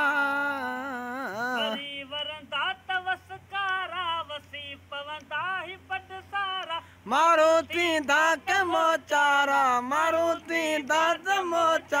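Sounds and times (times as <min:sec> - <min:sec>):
man singing solo: 0:00.0 - 0:12.0.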